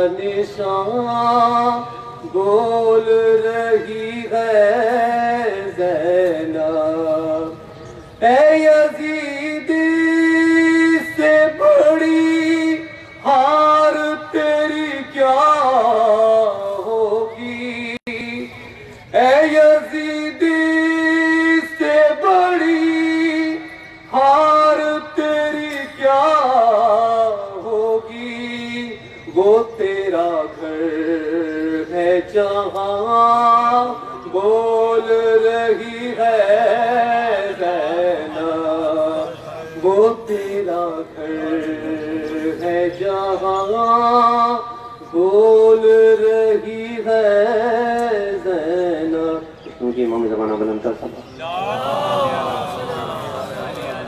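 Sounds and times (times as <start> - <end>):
man chanting through microphone: 0.0 - 54.0.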